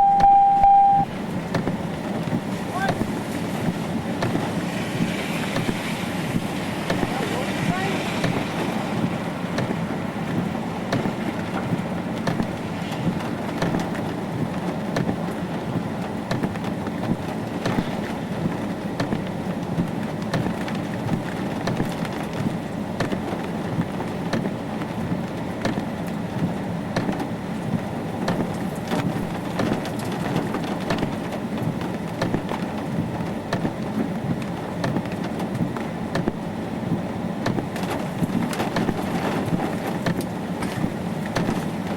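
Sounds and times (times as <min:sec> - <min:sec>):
rain pattering on a vehicle: 0:01.0 - 0:41.9.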